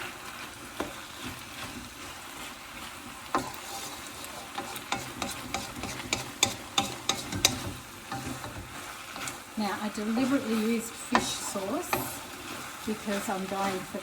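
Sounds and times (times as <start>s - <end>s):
food sizzling in a wok: 0.0s - 14.0s
utensil scraping against wok: 0.0s - 14.0s.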